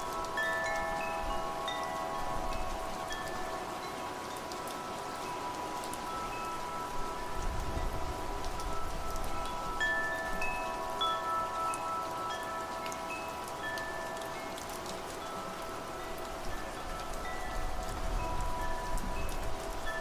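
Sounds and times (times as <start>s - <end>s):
metal wind chimes ringing: 0.0s - 20.0s
rain falling: 0.0s - 20.0s.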